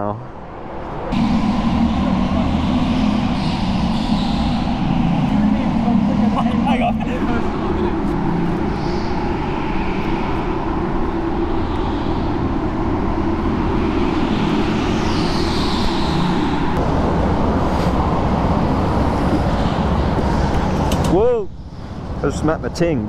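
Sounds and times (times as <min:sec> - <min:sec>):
go-karts racing drone: 0:01.0 - 0:23.0.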